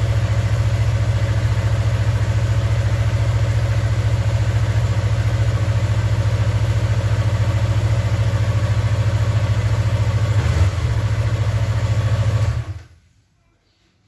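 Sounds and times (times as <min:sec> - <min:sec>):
motorcycle engine idling: 0:00.0 - 0:12.8.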